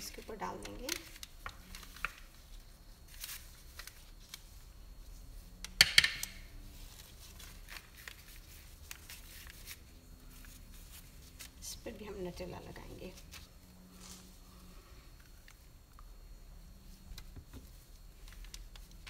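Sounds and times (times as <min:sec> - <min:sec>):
parchment paper and dough rustling: 0:00.0 - 0:19.0.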